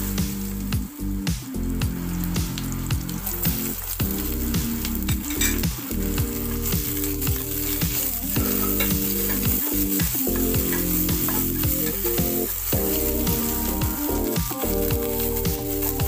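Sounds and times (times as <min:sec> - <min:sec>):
background music: 0:00.0 - 0:16.0
garlic sizzling in hot oil: 0:00.0 - 0:16.0
wooden spatula stirring: 0:02.6 - 0:16.0.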